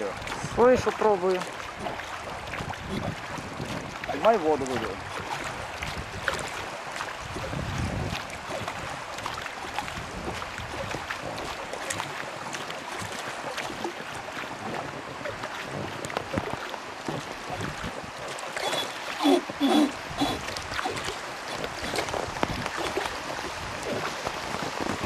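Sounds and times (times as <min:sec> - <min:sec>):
river water rushing beside a boat: 0:00.0 - 0:25.0.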